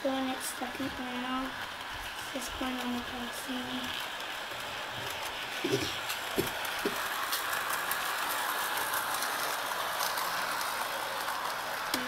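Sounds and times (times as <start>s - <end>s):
wheels clicking on rails: 0.0s - 12.0s
electric motor whir: 0.6s - 12.0s.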